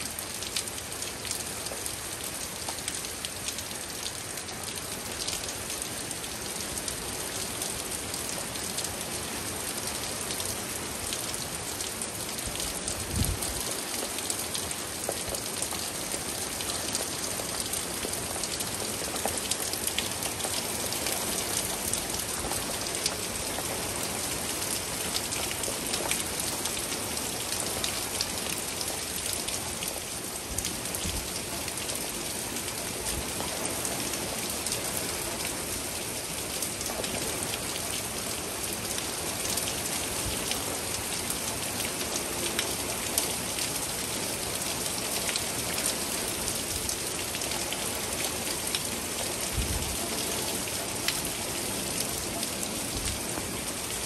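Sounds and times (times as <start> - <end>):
raindrops ticking on surfaces: 0.0 - 54.0
steady rain falling: 0.0 - 54.0.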